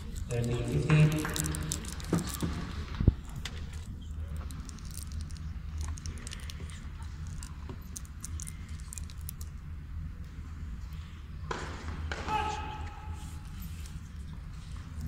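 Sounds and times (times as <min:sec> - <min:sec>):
low hum of hall: 0:00.0 - 0:15.0.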